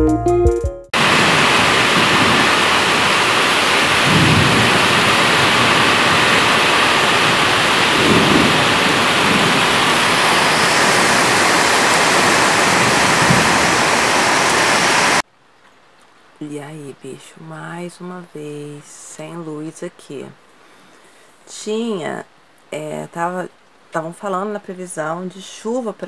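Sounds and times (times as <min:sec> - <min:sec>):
rain on foliage and roofs: 0:01.0 - 0:19.6, 0:20.3 - 0:26.0.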